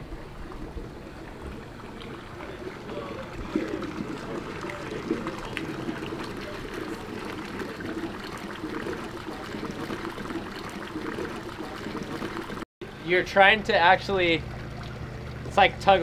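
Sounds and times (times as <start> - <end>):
water lapping against boat hulls: 0.0 - 12.6, 13.6 - 16.0.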